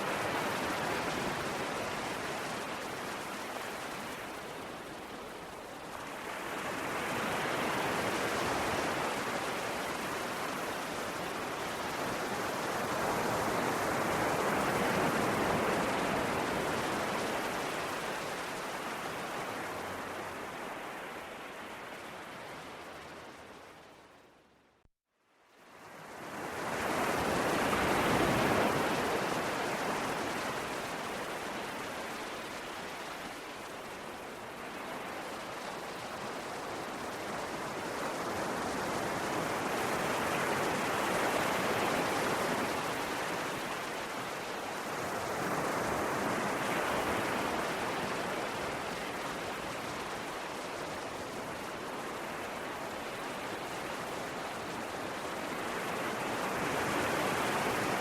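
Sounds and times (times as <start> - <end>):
ocean waves breaking on shore: 0.0 - 24.3, 25.6 - 58.0.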